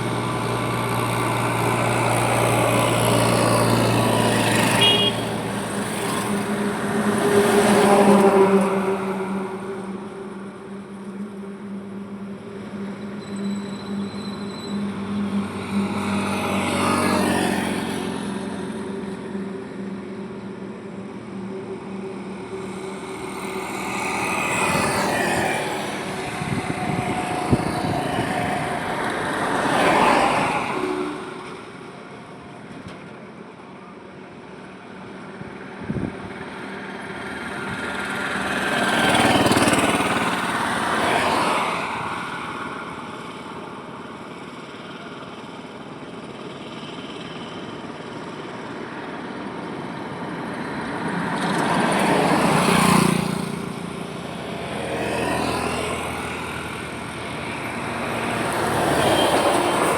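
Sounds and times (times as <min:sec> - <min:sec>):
heavy engine droning: 0:00.0 - 0:59.9
vehicles passing on highway: 0:00.0 - 0:59.9.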